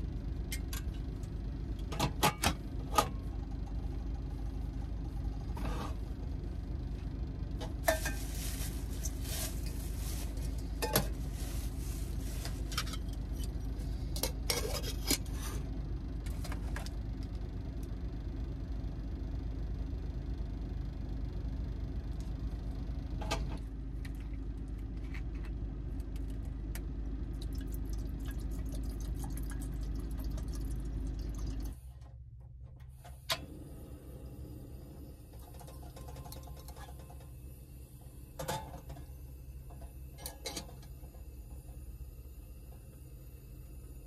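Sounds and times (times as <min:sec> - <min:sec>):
quiet hum: 0:00.0 - 0:44.0
steady low rumble: 0:00.0 - 0:44.0.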